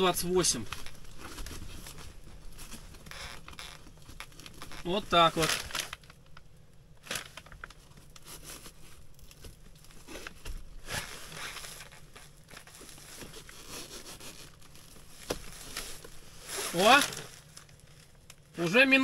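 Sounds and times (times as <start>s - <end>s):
fabric rustling and crinkling: 0.0s - 19.0s.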